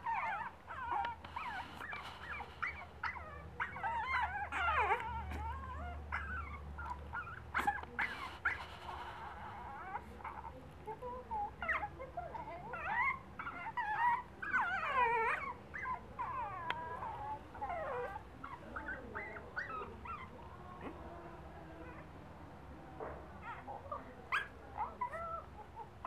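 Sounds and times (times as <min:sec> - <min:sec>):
puppy whining: 0:00.0 - 0:21.0, 0:23.4 - 0:26.0.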